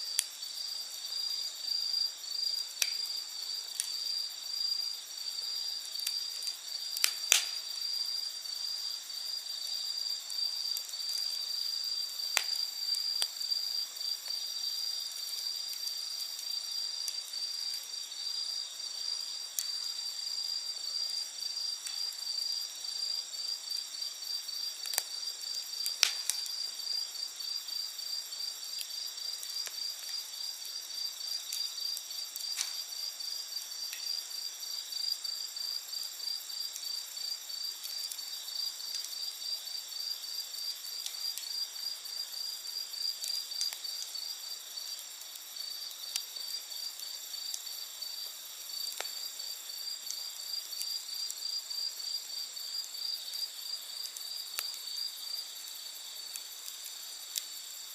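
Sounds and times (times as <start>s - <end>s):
campfire popping and crackling: 0.0s - 57.9s
crickets chirping: 0.0s - 57.9s
insects trilling: 0.0s - 57.9s.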